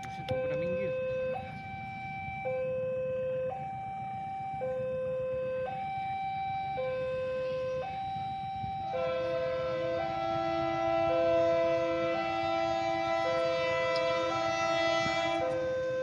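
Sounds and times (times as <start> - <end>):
two-tone level crossing alarm: 0.0 - 16.0.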